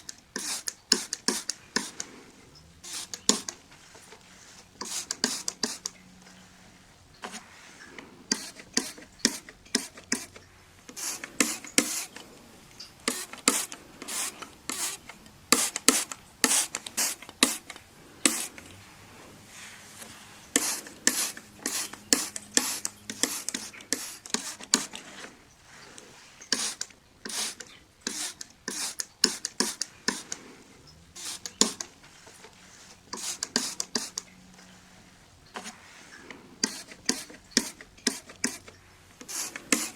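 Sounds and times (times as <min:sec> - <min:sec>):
rubbing and wiping on glass: 0:00.0 - 0:39.9.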